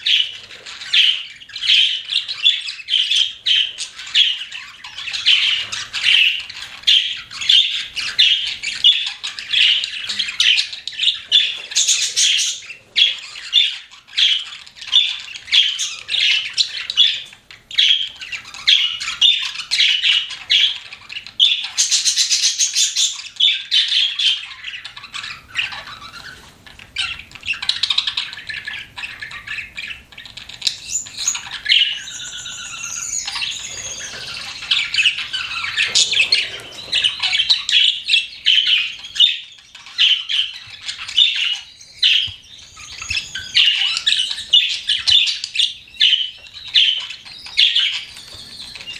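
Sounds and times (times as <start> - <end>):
budgerigars chirping and chattering: 0.0 - 48.9.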